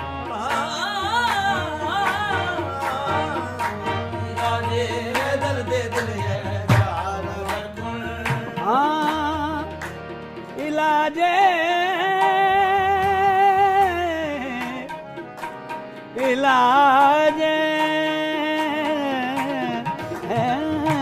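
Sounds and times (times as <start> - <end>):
devotional singing with wavering notes: 0.0 - 21.0.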